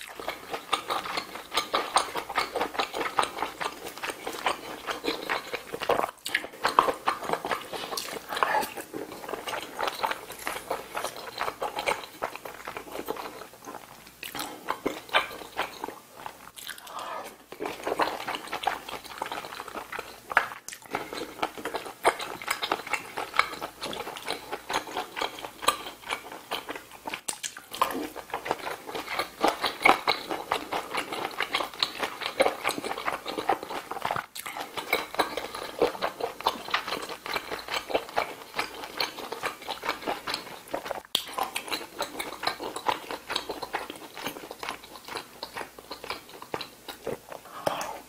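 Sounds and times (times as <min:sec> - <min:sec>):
wet chewing and mouth smacks: 0:00.0 - 0:48.0.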